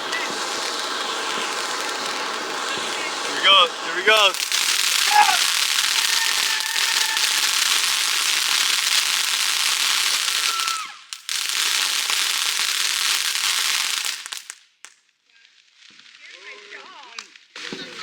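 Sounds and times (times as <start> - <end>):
firework crackling hiss: 0.0 - 15.0, 15.6 - 18.0.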